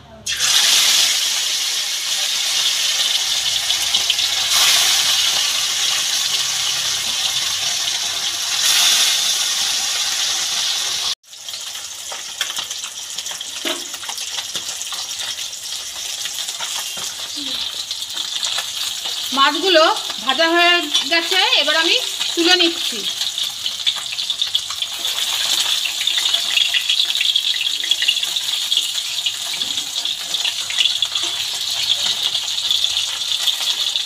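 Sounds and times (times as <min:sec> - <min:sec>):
fish sizzling in hot oil: 0:00.3 - 0:34.0
oil popping and crackling: 0:00.3 - 0:34.0.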